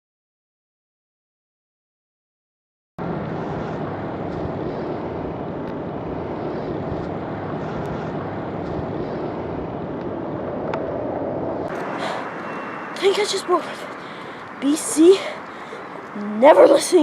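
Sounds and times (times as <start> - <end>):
deep blurred outdoor noise: 3.0 - 17.0.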